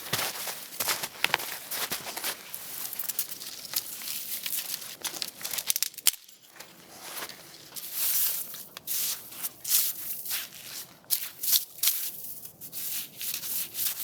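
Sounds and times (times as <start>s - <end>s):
crinkling and rustling handling: 0.0s - 14.0s.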